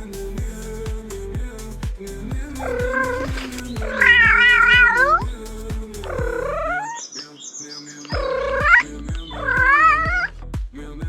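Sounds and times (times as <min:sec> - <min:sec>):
music with steady beat: 0:00.0 - 0:06.8, 0:08.1 - 0:11.0.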